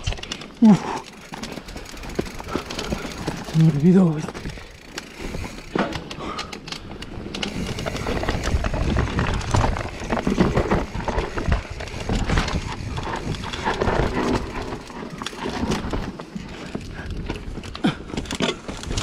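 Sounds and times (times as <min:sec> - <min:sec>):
bike rattling and clattering: 0:00.0 - 0:19.0
bike tyres crunching over stones: 0:00.0 - 0:19.0.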